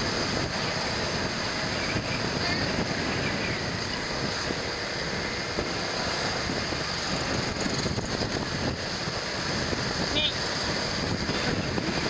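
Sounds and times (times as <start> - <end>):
scooter road noise: 0.0 - 12.0
wind noise: 0.0 - 12.0.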